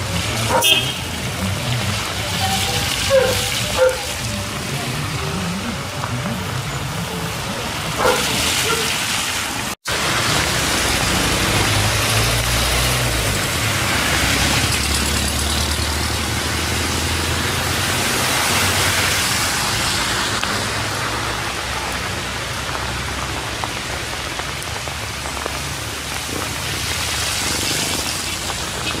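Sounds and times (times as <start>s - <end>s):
steady rain hissing: 0.0s - 15.0s, 15.6s - 29.0s.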